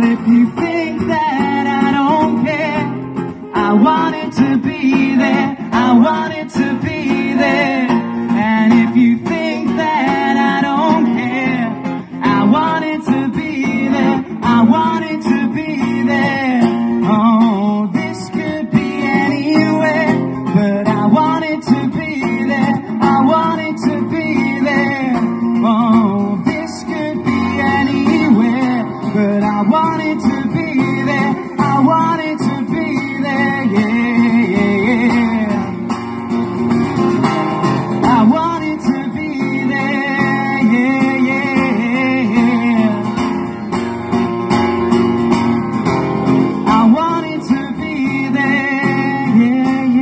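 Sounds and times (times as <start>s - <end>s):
acoustic guitar through pa: 0.0s - 50.0s.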